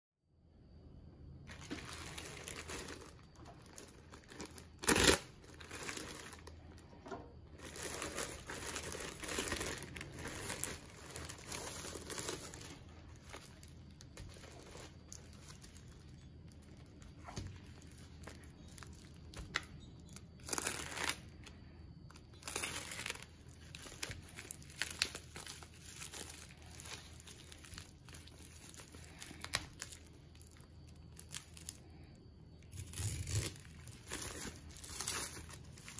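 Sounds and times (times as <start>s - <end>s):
plastic mailer and bubble wrap crinkling: 1.4s - 35.9s.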